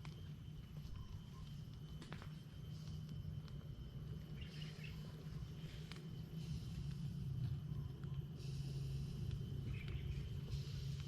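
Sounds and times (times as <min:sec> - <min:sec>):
high insect drone: 0:00.0 - 0:11.0
steady low rumble: 0:00.0 - 0:11.0.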